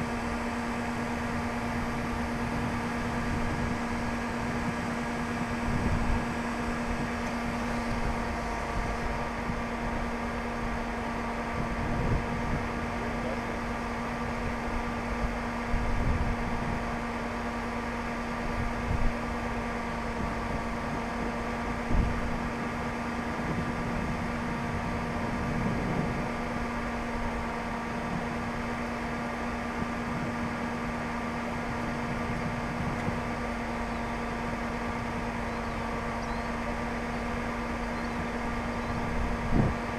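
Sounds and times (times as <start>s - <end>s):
mechanical hum low drone: 0.0s - 39.9s.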